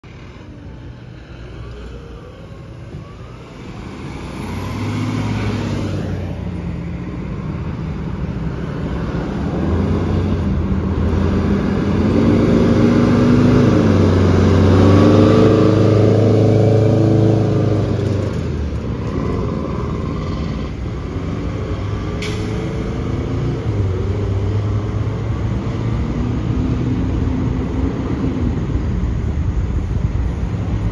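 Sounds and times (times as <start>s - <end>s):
fire trucks driving past: 0.0s - 30.9s.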